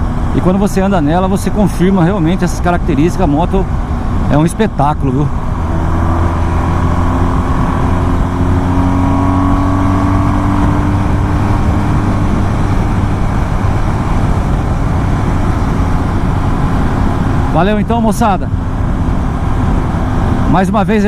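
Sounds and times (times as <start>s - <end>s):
motorcycle engine drone: 0.0s - 21.0s.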